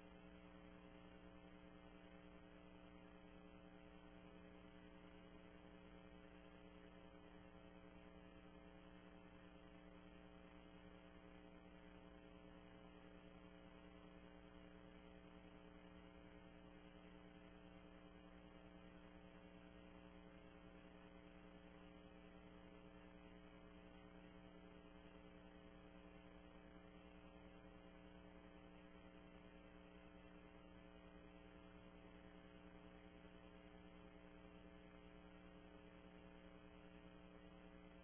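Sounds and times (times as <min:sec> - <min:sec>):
faint electrical hum: 0:00.0 - 0:38.0.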